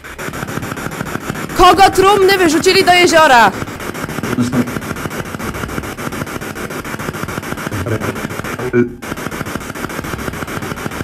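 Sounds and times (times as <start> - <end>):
pulsing radio static: 0.0 - 11.0
radio voice snatches: 0.0 - 11.0.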